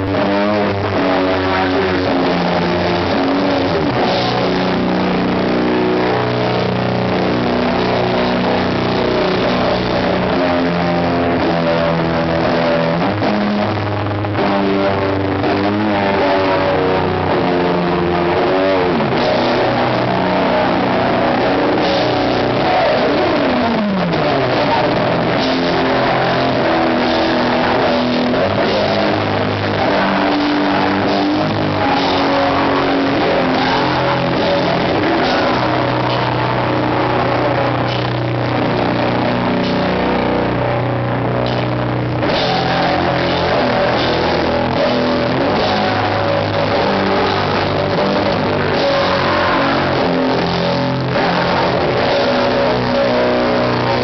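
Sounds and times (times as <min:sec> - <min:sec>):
guitar slides down in pitch: 0:00.0 - 0:54.0
metal band playing live: 0:00.0 - 0:54.0.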